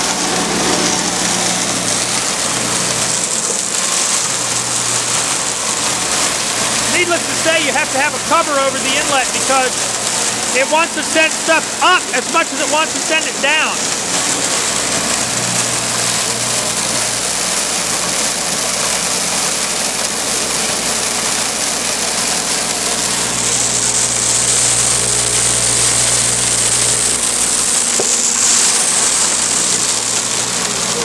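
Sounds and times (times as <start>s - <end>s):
rushing of material being shredded: 0.0s - 31.0s
shredder motor humming: 0.0s - 31.0s.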